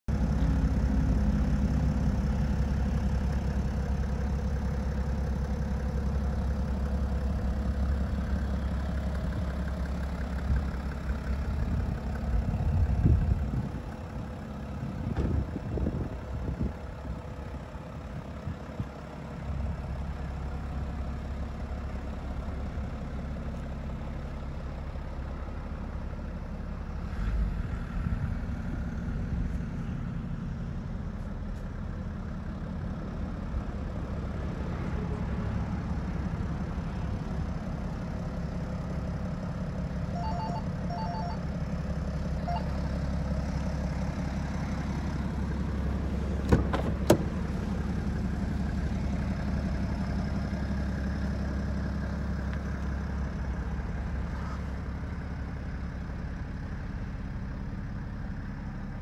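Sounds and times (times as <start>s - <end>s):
diesel engine idling: 0.1s - 59.0s.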